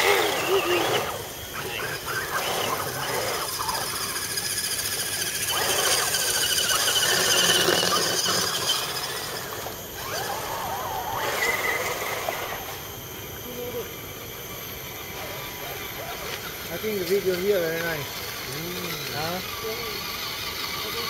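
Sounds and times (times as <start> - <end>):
rc truck electric motor whine: 0.0 - 21.0.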